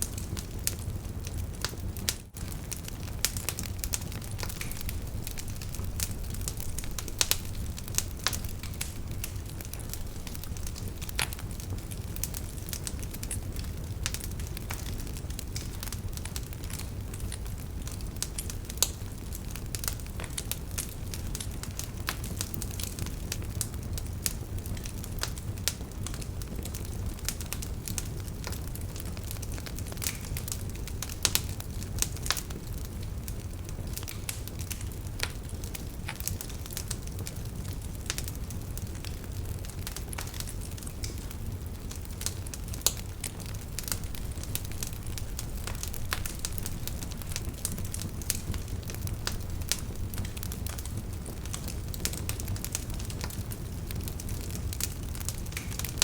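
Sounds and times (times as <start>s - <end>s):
fire popping and snapping: 0.0s - 56.0s
low rumble of flame: 0.0s - 56.0s.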